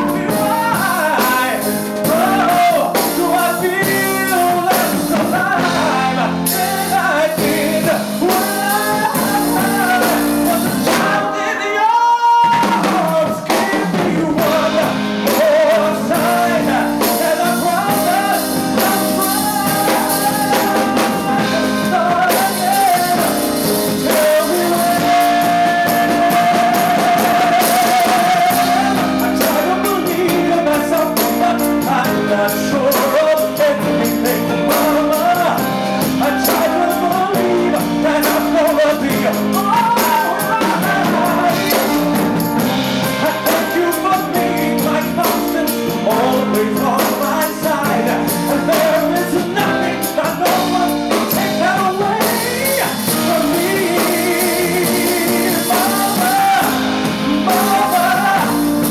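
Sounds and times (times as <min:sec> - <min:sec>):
band with drums: 0:00.0 - 0:11.5, 0:12.2 - 0:58.9
man singing: 0:00.0 - 0:58.9.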